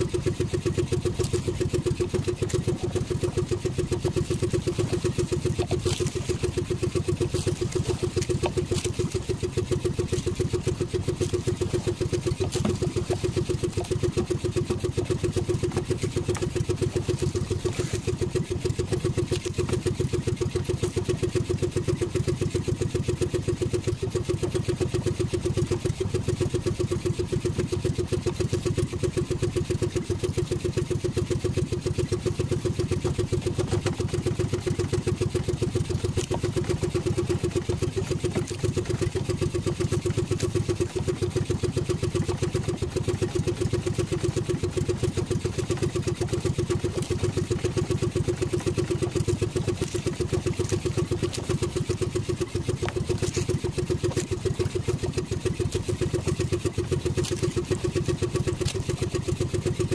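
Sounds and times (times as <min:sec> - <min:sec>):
boat motor running: 0:00.0 - 0:59.9.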